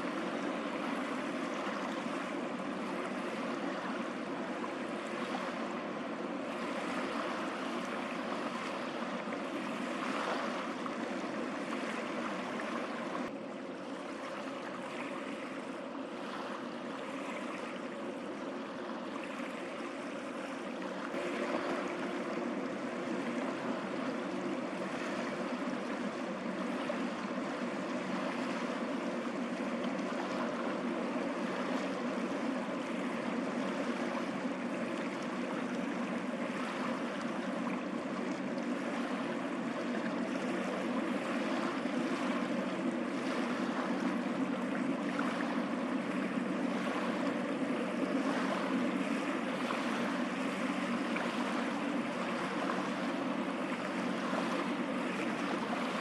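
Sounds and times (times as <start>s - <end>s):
boat engine drone: 0.0s - 56.0s
rushing sea water: 0.0s - 56.0s.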